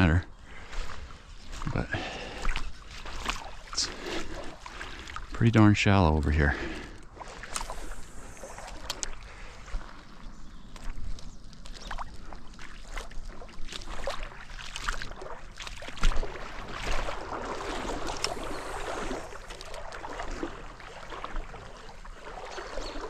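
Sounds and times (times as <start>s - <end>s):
water splashing in a river: 1.9s - 23.0s.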